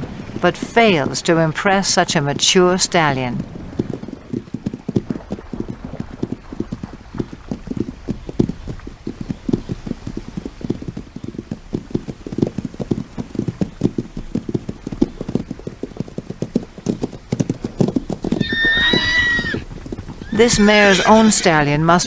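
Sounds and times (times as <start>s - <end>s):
horse hoofbeats running: 0.0s - 22.0s.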